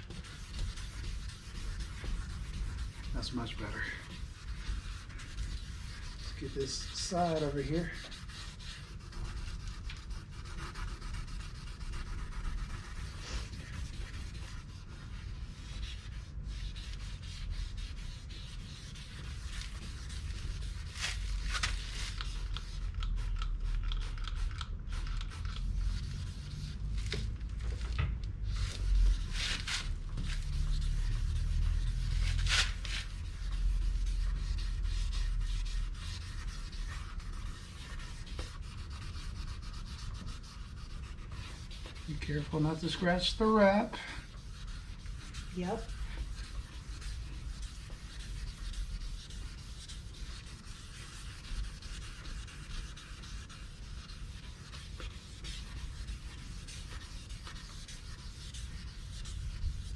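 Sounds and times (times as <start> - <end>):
wet sanding on plastic: 0.0 - 27.4, 28.4 - 59.9.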